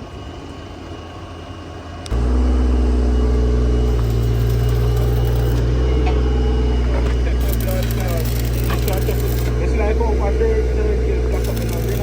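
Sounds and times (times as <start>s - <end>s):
engine machinery running: 0.0s - 12.0s
low engine hum: 0.0s - 12.0s.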